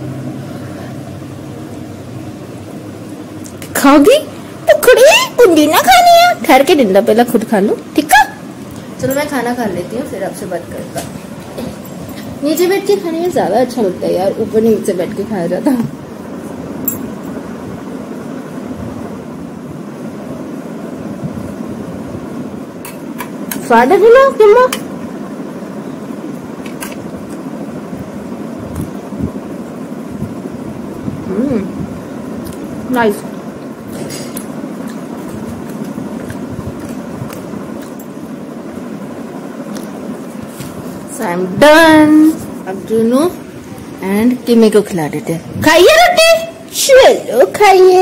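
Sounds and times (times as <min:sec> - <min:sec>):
low rumbling background noise: 0:00.0 - 0:48.0.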